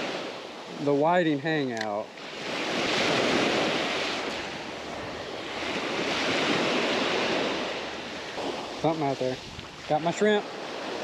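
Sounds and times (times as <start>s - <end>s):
surf washing on sand beach: 0.0s - 11.0s.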